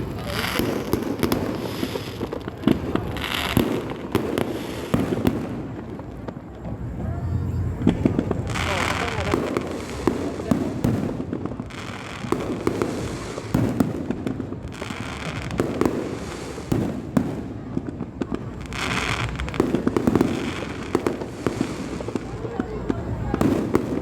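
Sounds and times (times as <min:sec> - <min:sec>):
fireworks bangs: 0:00.0 - 0:24.0
fireworks hissing and crackling: 0:00.0 - 0:24.0.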